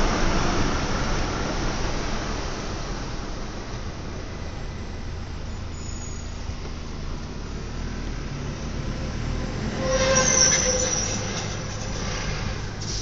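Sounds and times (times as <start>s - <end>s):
car road and engine rumble: 0.0s - 13.0s
truck passing with whine: 0.0s - 13.0s.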